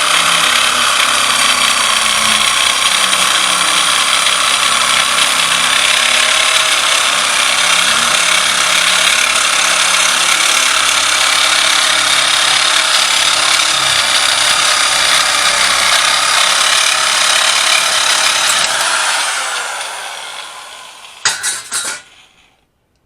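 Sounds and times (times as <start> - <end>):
power tool on sheet metal: 0.0 - 22.6.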